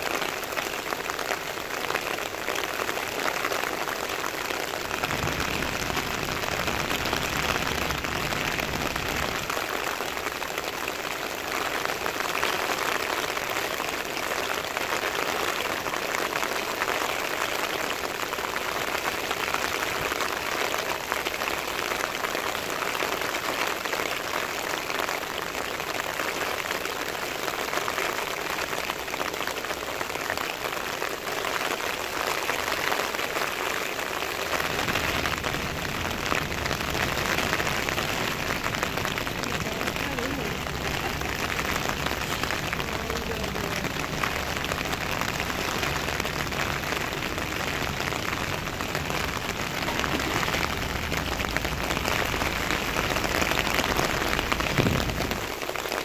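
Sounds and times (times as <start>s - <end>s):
heavy rain on wet road: 0.0s - 56.0s.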